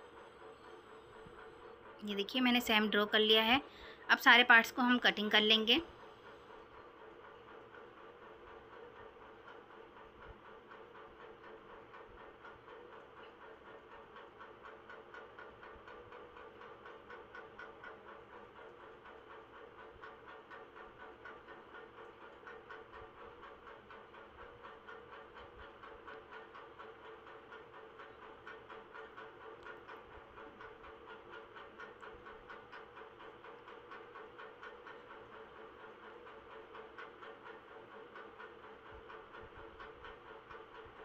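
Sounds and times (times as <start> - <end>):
steady background hum: 0.0 - 41.0.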